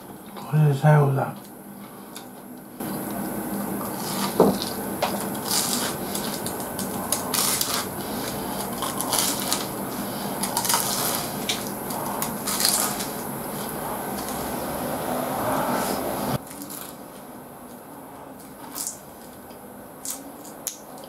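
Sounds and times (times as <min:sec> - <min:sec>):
chewing crunchy fried food: 0:01.4 - 0:14.8, 0:16.4 - 0:21.0.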